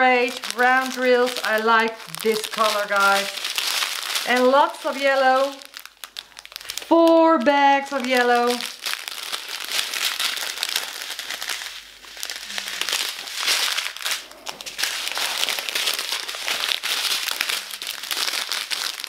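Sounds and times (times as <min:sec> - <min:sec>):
plastic bags rustling: 0:00.0 - 0:19.0.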